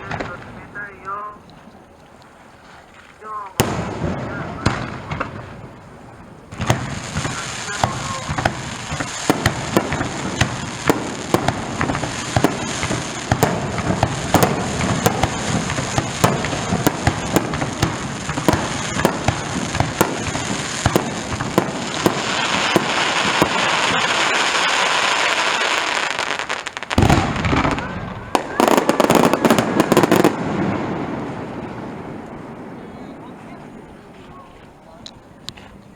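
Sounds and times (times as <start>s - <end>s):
fireworks bangs and pops: 0.0s - 35.8s
fireworks crackling hiss: 0.0s - 35.8s.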